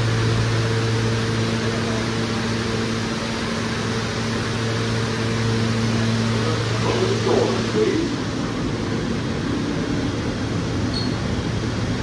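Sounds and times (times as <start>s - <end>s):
subway car equipment hum: 0.0s - 12.0s.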